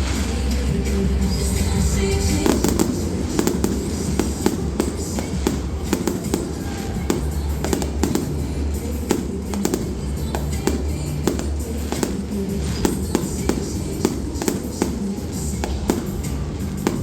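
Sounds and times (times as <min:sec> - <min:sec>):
fireworks crackling pops: 0:00.0 - 0:17.0
fireworks rumble: 0:00.0 - 0:17.0
music: 0:00.0 - 0:17.0.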